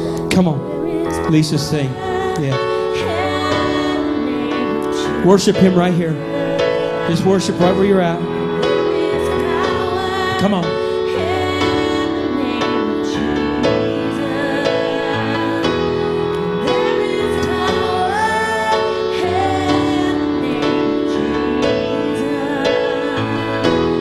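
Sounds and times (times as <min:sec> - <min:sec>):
bass line: 0:00.0 - 0:20.6
sustained keyboard chords: 0:00.0 - 0:24.0
woman singing: 0:00.5 - 0:05.3, 0:06.0 - 0:07.5, 0:08.2 - 0:24.0.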